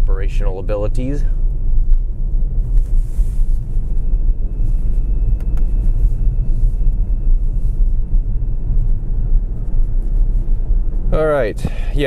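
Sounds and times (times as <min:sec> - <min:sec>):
faint high whine: 0:00.0 - 0:12.0
tire and road noise in car: 0:00.0 - 0:12.0.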